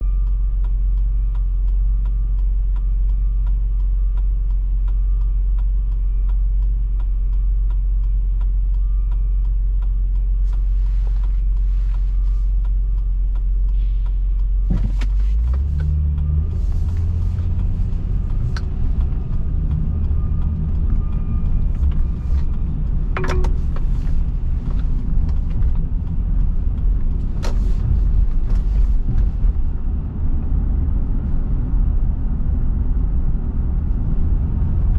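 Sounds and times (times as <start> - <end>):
car driving rumble: 0.0 - 34.9.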